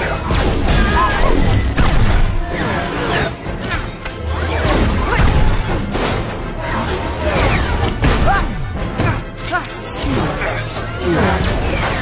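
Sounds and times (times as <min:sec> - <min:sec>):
dramatic music: 0:00.0 - 0:12.0.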